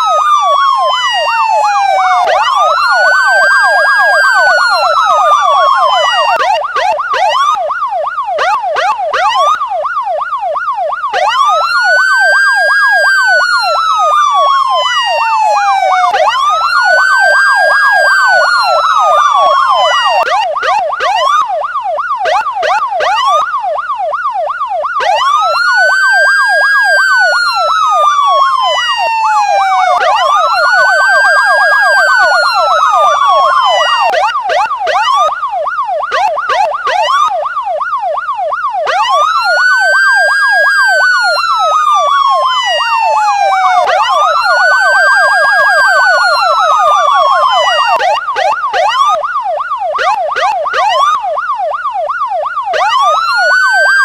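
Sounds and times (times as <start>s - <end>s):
police siren wail: 0.0s - 54.0s
police siren yelp: 0.0s - 54.0s.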